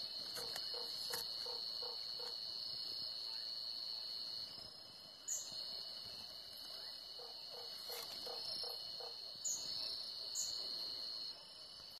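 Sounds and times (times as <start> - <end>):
insects trilling: 0.0 - 11.9.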